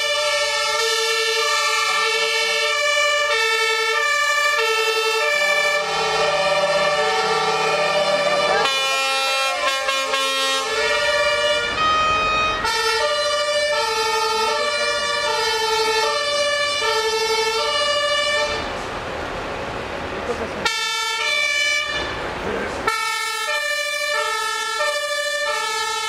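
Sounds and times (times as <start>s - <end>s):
fire engine two-tone siren: 0.0s - 18.8s, 20.6s - 26.0s.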